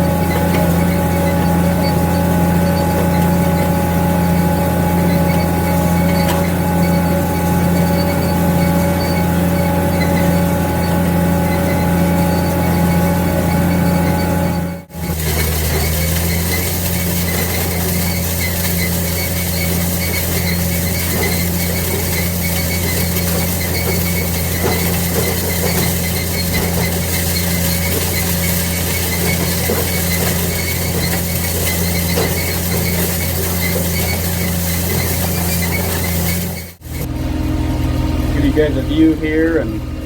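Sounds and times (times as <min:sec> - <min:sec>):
baler machinery clattering and squealing: 0:00.0 - 0:40.0
tractor diesel engine running: 0:00.0 - 0:40.0.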